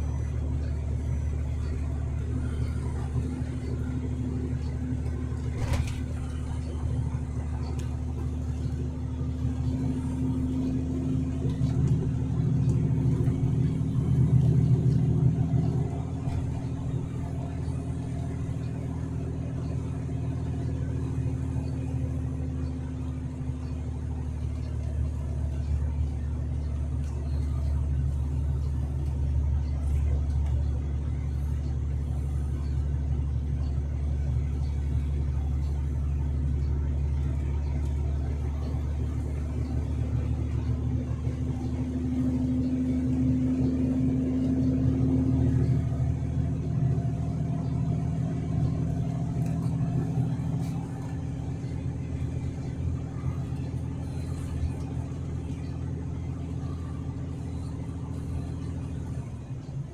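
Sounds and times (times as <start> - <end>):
road noise inside cab: 0.0 - 59.9
truck engine drone: 0.0 - 59.9.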